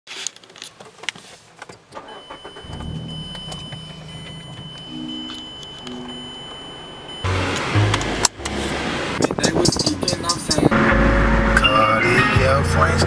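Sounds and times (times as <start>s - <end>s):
car engine running: 2.2s - 13.0s
high-pitched whine: 2.5s - 13.0s.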